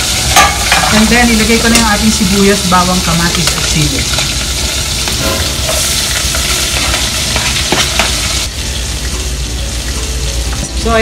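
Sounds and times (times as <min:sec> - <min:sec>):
oil sizzling in a pot: 0:00.0 - 0:11.0.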